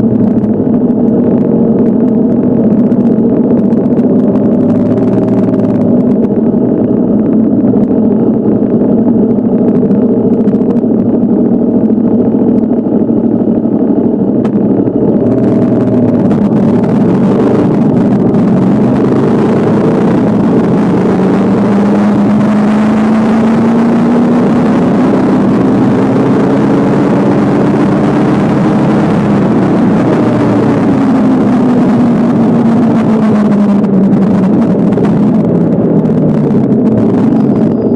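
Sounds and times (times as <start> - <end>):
motorcycle engine running: 0.0 - 37.9
wind rushing over microphone: 0.0 - 37.9.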